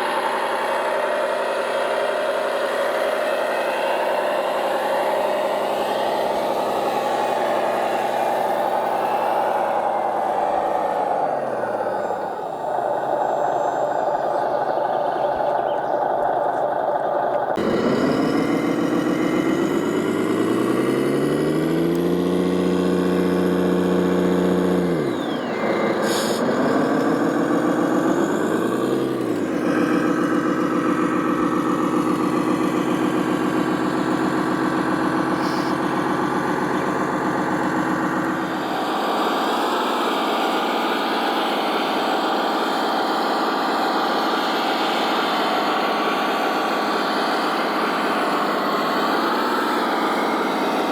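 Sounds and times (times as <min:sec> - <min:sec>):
toy vehicle engine revving: 0:00.0 - 0:50.9.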